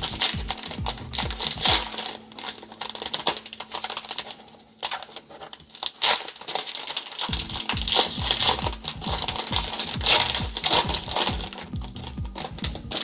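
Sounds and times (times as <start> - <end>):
plastic wrapper tearing and crinkling: 0.0 - 13.0.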